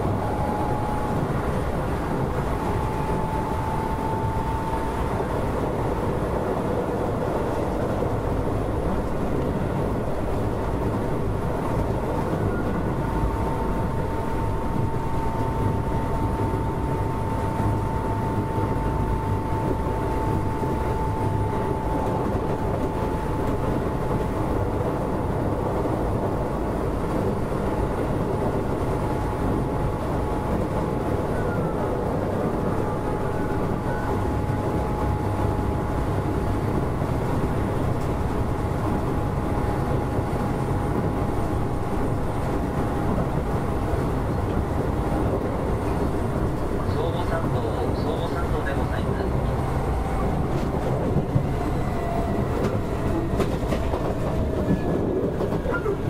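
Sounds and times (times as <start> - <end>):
electric train whine: 0.0 - 56.0
train wheels rumbling on track: 0.0 - 56.0.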